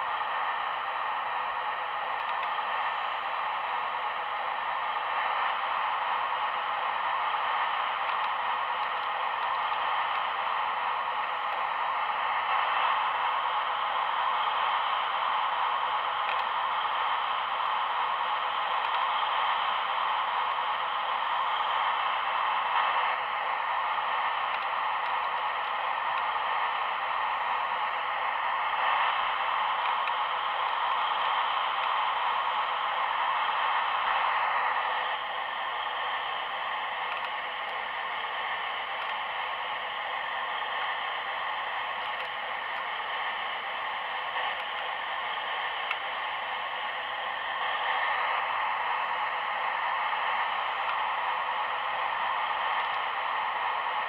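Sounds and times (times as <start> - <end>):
steady hissing whir of motors: 0.0 - 54.0.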